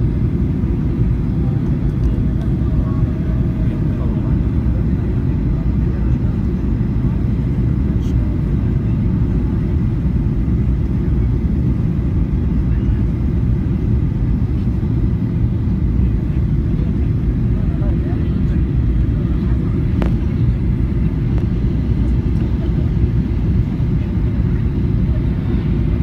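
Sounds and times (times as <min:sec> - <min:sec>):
jet engine rumble in cabin: 0:00.0 - 0:26.0.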